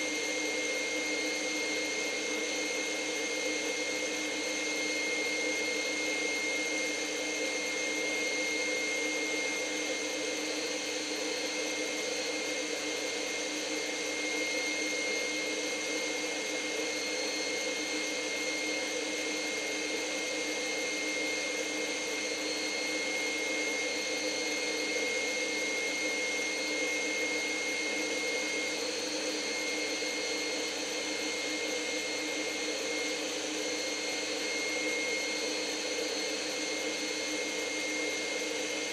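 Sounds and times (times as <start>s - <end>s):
stand mixer motor humming: 0.1s - 38.9s.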